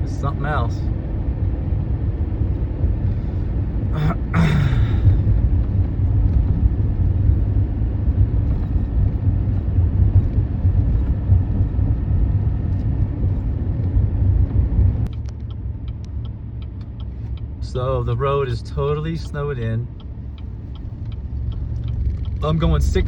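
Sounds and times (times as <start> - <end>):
pickup truck driving: 0.0 - 23.0.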